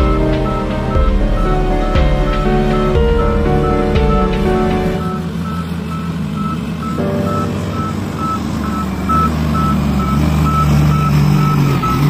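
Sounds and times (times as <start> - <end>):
diesel engine running: 0.0 - 12.0
reversing alarm beeping: 0.0 - 12.0.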